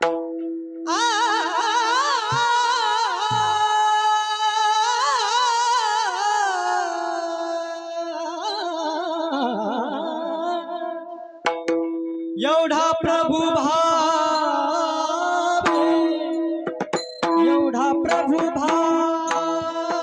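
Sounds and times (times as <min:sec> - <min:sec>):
high voice singing wordless melody: 0:00.8 - 0:11.4, 0:12.4 - 0:20.0.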